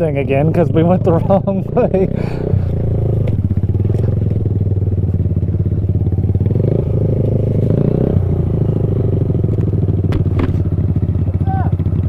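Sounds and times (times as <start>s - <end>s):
minibike engine running at low revs: 0.0s - 12.0s.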